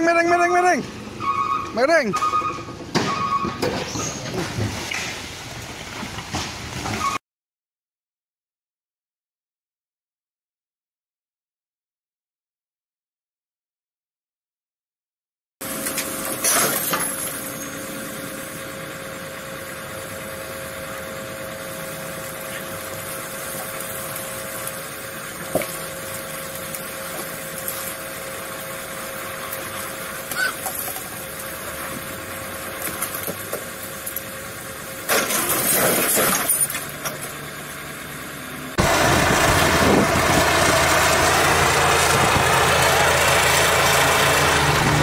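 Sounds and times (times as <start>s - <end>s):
heavy truck engine running: 0.0s - 7.1s, 15.6s - 45.0s.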